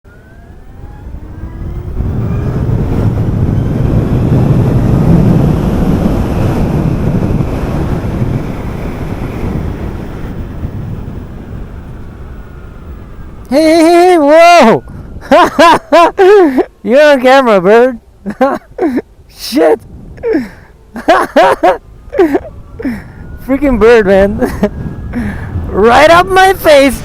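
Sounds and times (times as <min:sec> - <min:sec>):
wind rushing over microphone: 0:00.1 - 0:27.0.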